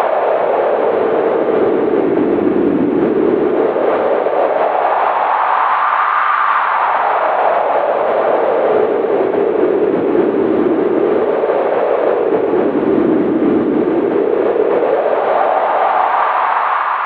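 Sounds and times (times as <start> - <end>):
wind howling: 0.0 - 17.0.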